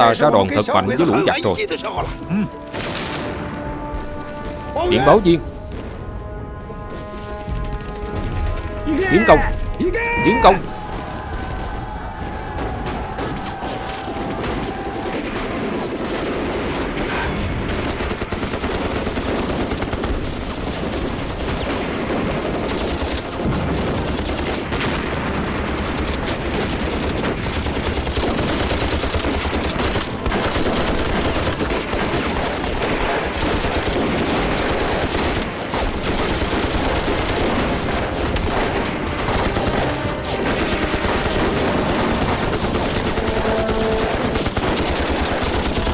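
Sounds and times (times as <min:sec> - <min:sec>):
many guns firing: 0:02.6 - 0:45.9.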